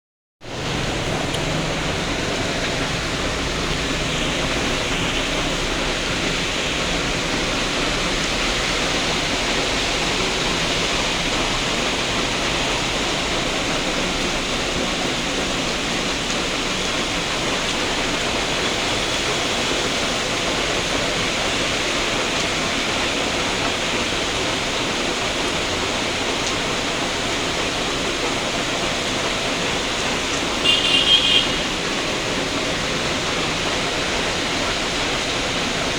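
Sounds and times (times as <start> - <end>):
heavy rain falling: 0.4 - 35.9.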